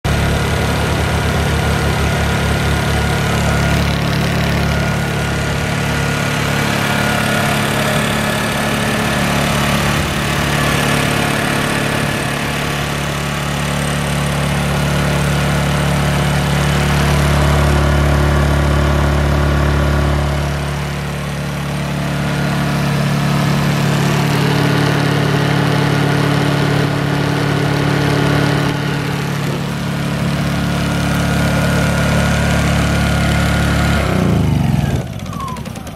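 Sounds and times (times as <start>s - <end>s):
generator engine running: 0.0s - 35.9s.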